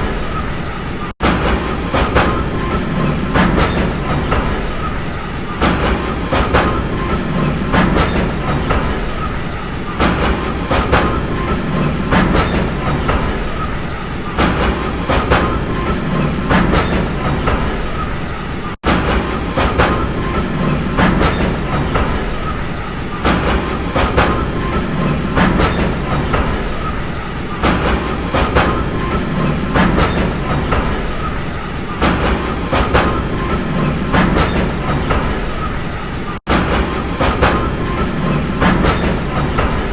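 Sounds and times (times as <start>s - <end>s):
train rumbling on track: 0.0s - 39.9s
wheels clacking over rail joints: 0.0s - 39.9s.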